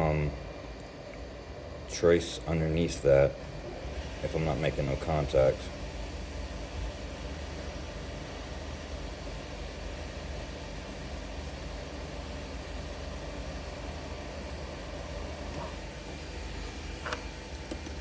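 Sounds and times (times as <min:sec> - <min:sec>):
constant low hum: 0:00.0 - 0:18.0
fan whirring: 0:00.0 - 0:18.0.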